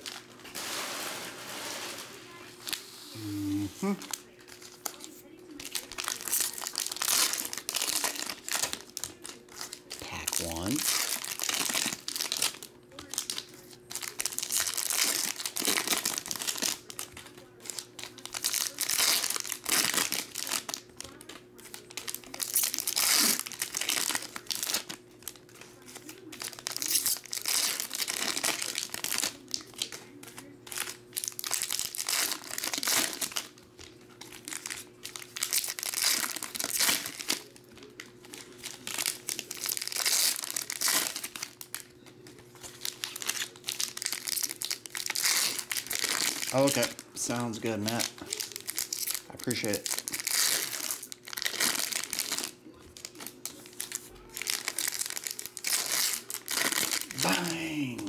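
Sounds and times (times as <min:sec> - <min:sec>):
foil wrappers crinkling and tearing: 0:00.0 - 0:58.0.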